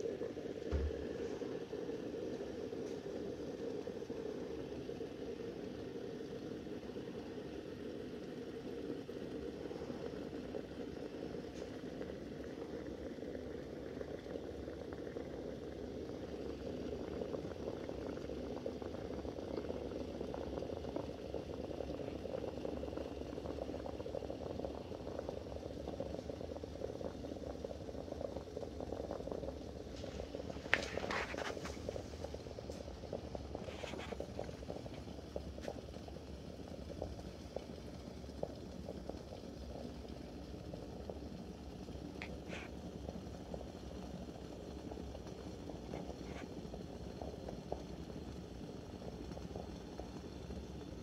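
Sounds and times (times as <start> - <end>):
coffee maker bubbling: 0.0 - 51.0.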